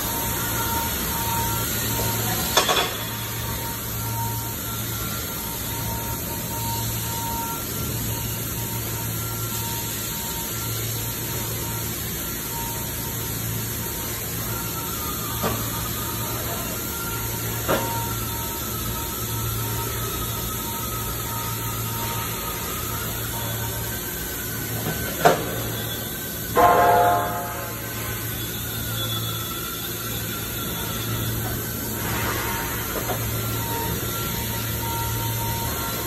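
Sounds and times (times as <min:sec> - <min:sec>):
hissing and humming shop noise: 0:00.0 - 0:36.0.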